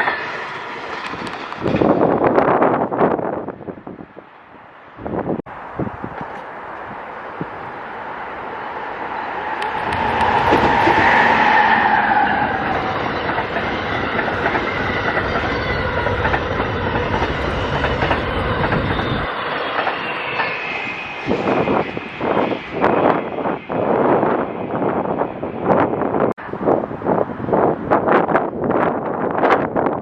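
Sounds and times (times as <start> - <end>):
passenger train passing: 0.0 - 30.0.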